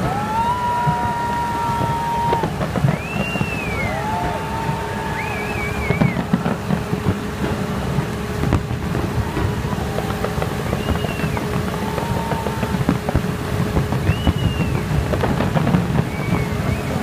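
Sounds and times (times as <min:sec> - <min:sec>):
fireworks bangs and crackles: 0:00.0 - 0:17.0
high fireworks whistles: 0:00.0 - 0:17.0.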